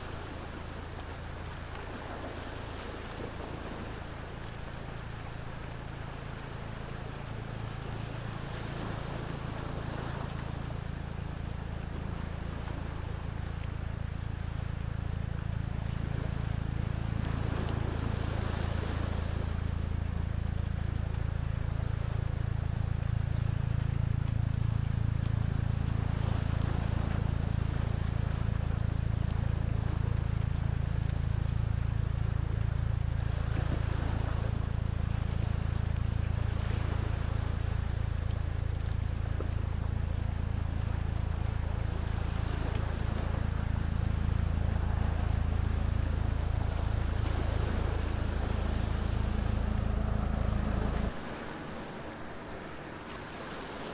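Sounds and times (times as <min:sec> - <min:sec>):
sea waves washing in: 0:00.0 - 0:53.9
steady low rumble: 0:00.0 - 0:53.9.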